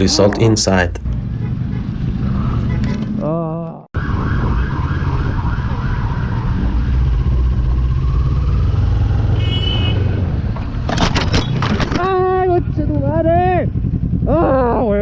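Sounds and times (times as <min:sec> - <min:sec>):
vehicle road noise rumble: 0:00.0 - 0:15.0.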